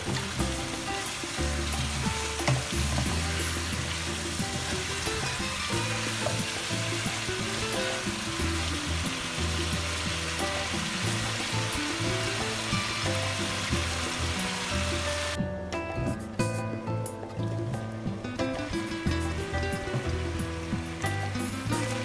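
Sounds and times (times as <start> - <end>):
chicken sizzling in oil: 0.0 - 15.4, 18.5 - 22.0
background music low notes: 0.0 - 22.0.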